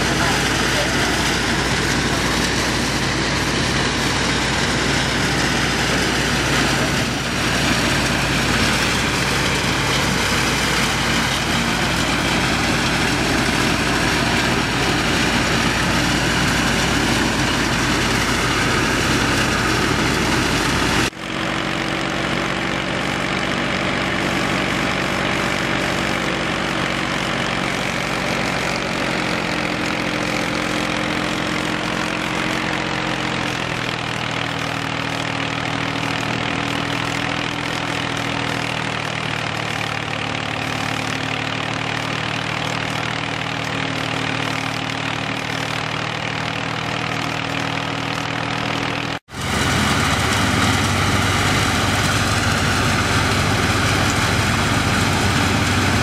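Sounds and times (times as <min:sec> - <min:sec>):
tractor engine drone: 0:00.0 - 0:56.0
wheat thresher running: 0:00.0 - 0:56.0.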